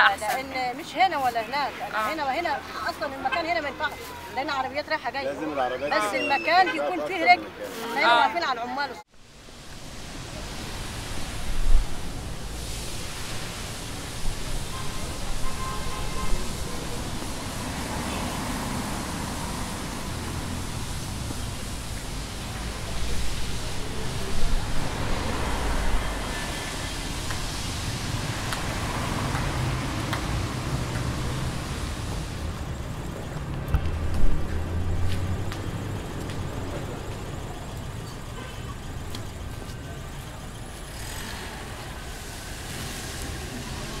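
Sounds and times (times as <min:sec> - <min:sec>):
low traffic rumbles: 0:00.0 - 0:44.0
road traffic hum: 0:00.0 - 0:44.0.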